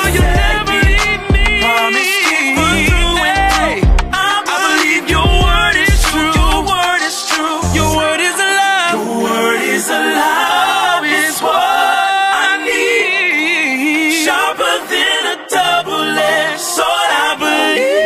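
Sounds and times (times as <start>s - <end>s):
voices singing gospel harmonies: 0.0s - 18.0s.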